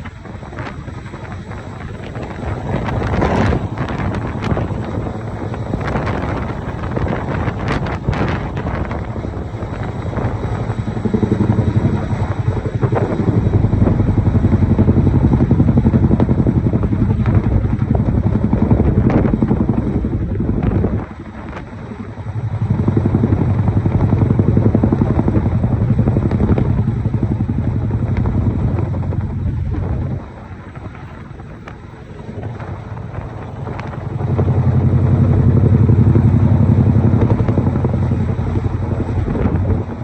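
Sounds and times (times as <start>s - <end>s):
helicopter rotors beating: 0.0s - 40.0s.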